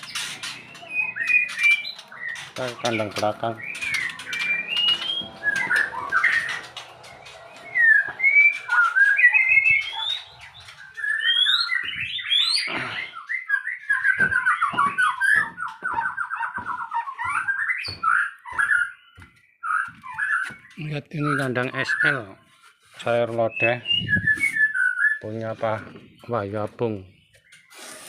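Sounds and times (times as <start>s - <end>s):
songbird whistling: 0.0s - 22.3s, 23.3s - 25.4s.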